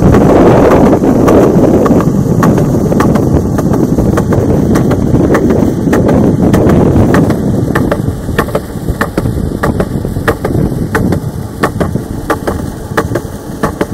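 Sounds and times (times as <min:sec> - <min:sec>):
wind rumbling on microphone: 0:00.0 - 0:13.9.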